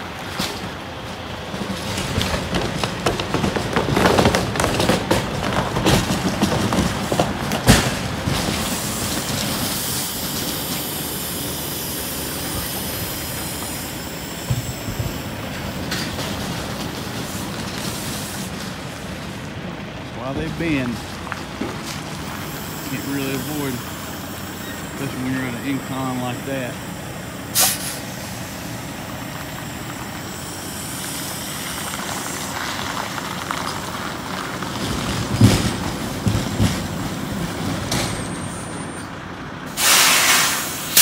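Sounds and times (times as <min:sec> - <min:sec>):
tires scrubbing across pavement: 0:00.0 - 0:41.0
rumble and hiss: 0:05.9 - 0:41.0.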